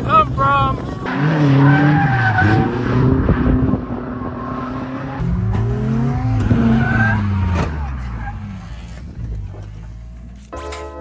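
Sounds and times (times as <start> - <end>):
tires skidding: 0.0 - 10.1
car engine revving: 0.0 - 10.3.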